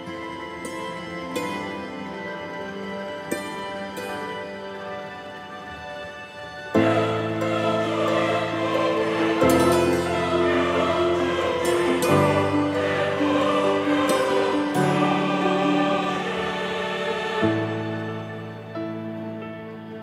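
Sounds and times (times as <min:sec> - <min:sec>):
slow choral chords: 0:00.0 - 0:20.0.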